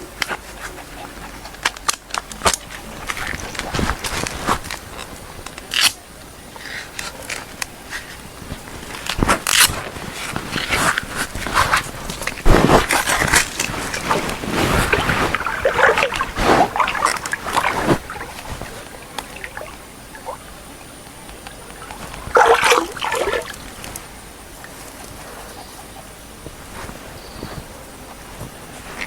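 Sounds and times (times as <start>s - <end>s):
water sloshing and splashing: 0.0s - 29.0s.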